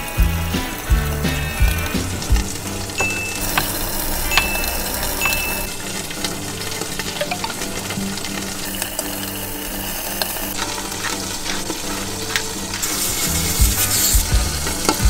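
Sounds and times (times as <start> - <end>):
soft background music: 0.0 - 15.0
steady sizzling hiss: 0.0 - 15.0.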